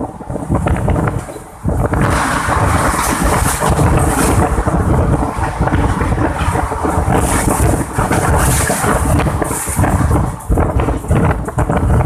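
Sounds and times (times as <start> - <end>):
moving train rumble: 0.0 - 12.0
wind buffeting microphone: 0.0 - 12.0.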